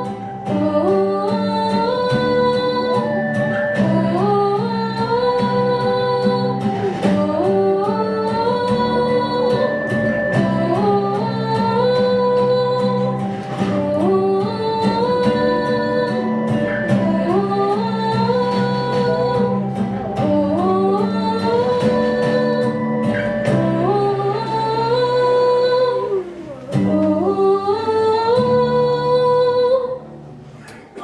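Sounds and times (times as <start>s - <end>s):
plucked guitar: 0.0s - 31.0s
person singing: 3.8s - 30.0s.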